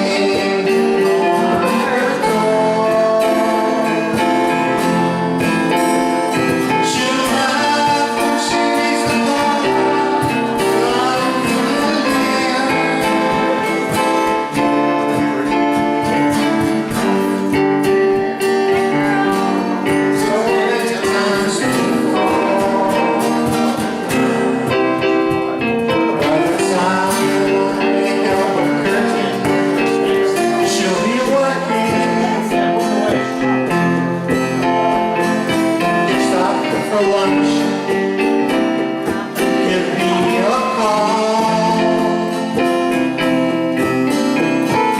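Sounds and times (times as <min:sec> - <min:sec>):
live band playing: 0:00.0 - 0:44.9
person singing: 0:00.0 - 0:44.9.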